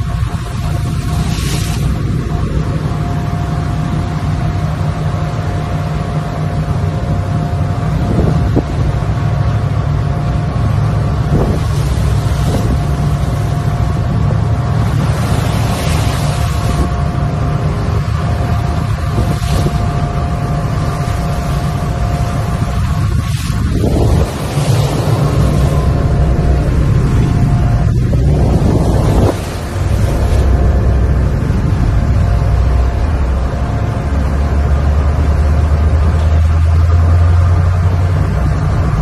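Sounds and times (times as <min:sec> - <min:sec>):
boat engine running: 0:00.0 - 0:39.0
water rushing past hull: 0:00.0 - 0:39.0
wind on microphone: 0:00.0 - 0:39.0.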